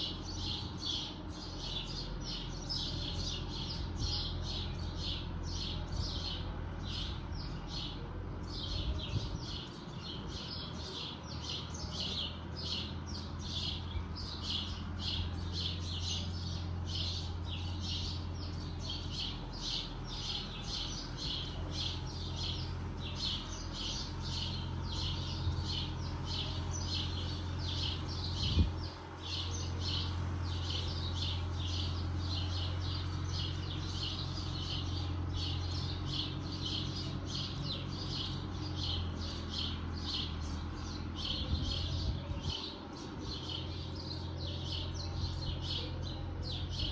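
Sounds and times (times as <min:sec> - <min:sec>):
distant tractor humming: 0:00.0 - 0:46.9.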